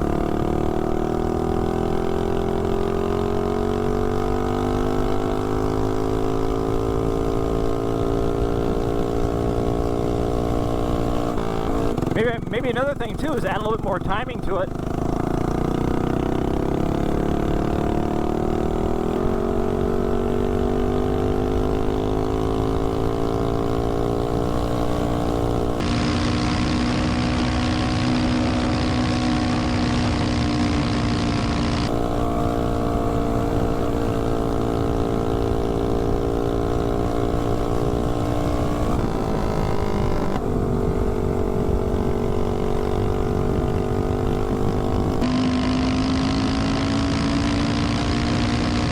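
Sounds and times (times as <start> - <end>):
mini bike engine accelerating: 0.0 - 48.9.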